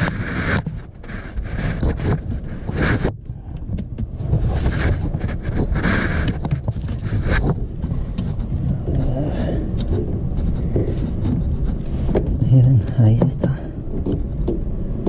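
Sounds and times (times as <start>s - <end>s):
cables rustling and clicking: 0.0s - 14.6s
steady low rumble: 0.0s - 15.0s.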